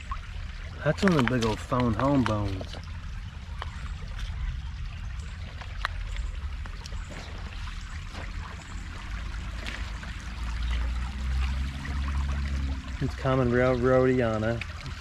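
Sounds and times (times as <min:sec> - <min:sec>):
creek water trickling: 0:00.0 - 0:15.0
low rumble: 0:00.0 - 0:15.0.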